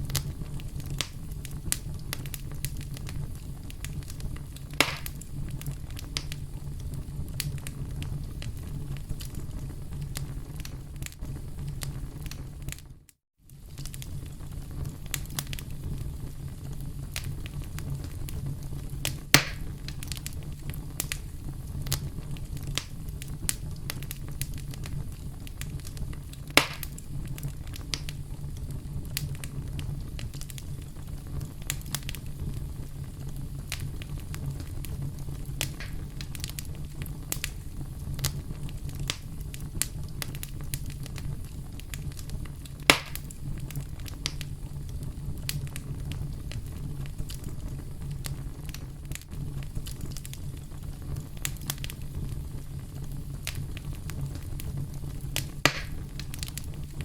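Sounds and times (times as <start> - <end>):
campfire crackling: 0.0 - 57.0
loud fire pops: 0.0 - 57.0.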